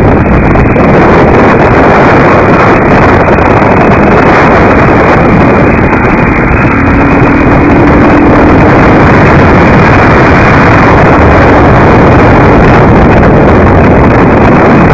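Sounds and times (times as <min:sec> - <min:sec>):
motorcycle engine running: 0:00.0 - 0:14.9
wind rushing on microphone: 0:00.0 - 0:14.9.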